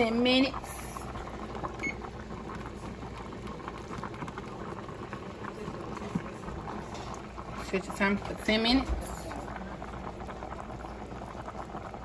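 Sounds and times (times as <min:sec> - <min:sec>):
pot of water boiling: 0:00.0 - 0:12.0.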